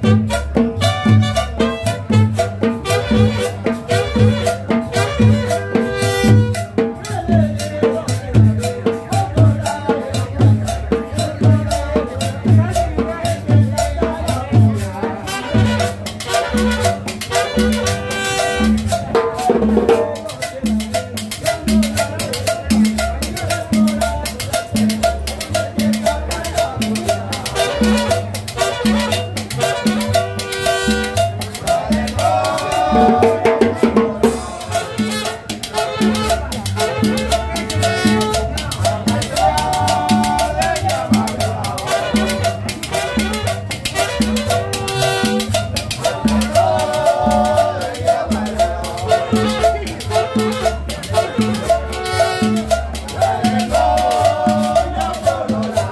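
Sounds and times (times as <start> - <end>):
conga drum beat: 0.0 - 55.9
live salsa band playing: 0.0 - 55.9
upright bass: 0.0 - 55.9.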